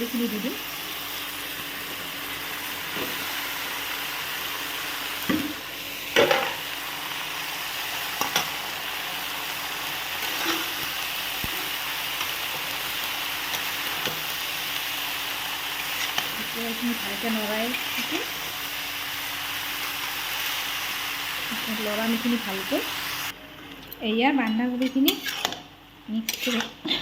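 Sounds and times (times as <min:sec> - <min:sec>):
cabbage sizzling in a pan: 0:00.0 - 0:23.4.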